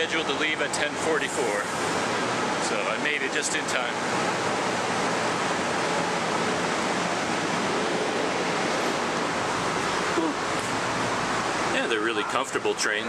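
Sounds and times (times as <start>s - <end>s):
train air conditioning rushing: 0.0s - 13.0s.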